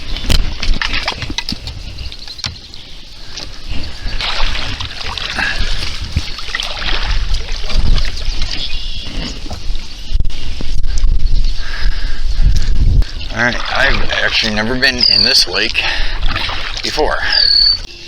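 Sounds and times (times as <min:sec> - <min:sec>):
water sloshing and splashing: 0:00.0 - 0:10.0, 0:13.0 - 0:17.9.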